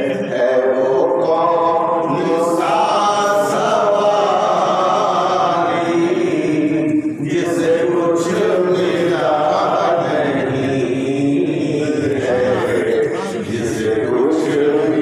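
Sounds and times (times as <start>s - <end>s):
men singing unaccompanied: 0.0s - 15.0s.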